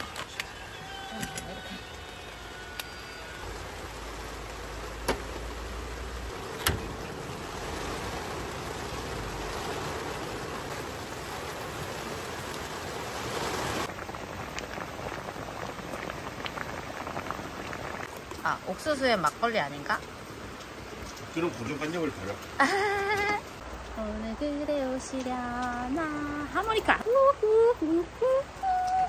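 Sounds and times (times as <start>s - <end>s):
heavy rain on a tent: 0.0s - 29.0s.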